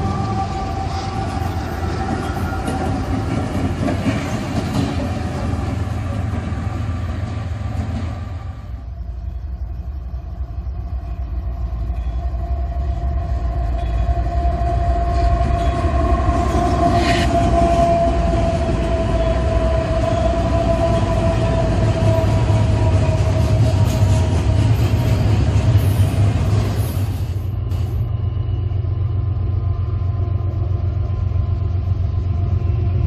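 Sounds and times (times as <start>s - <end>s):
diesel locomotives rumbling past: 0.0s - 33.0s.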